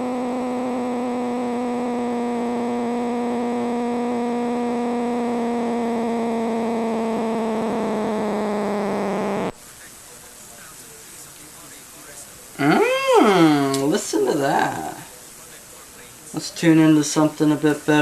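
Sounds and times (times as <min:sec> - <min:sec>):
amplifier droning tone with hiss: 0:00.0 - 0:18.0.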